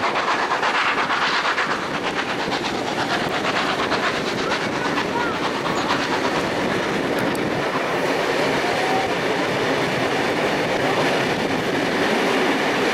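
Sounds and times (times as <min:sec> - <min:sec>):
train wheels on rails: 0:00.0 - 0:12.9.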